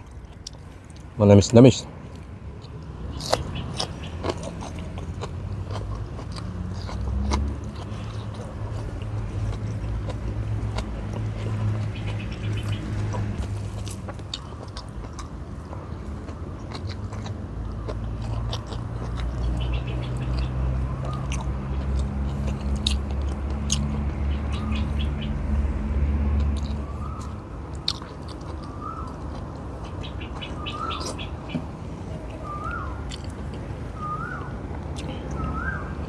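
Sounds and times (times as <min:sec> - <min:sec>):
chewing and lip-smacking: 0:00.0 - 0:01.2, 0:02.0 - 0:36.0.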